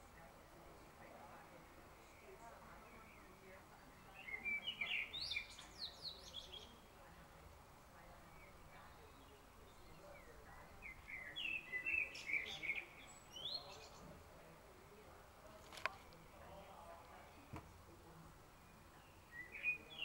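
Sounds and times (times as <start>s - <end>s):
faint steady background noise: 0.0s - 20.0s.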